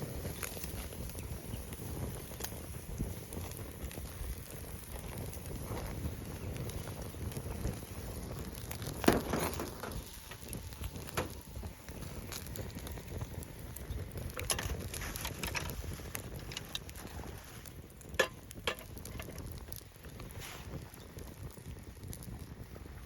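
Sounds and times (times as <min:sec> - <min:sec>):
sharp crackles and clicks: 0:00.0 - 0:23.0.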